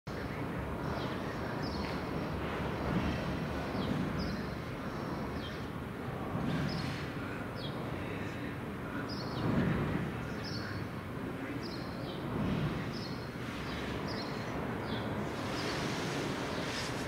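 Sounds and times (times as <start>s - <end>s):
street traffic rumbling: 0.1s - 17.0s.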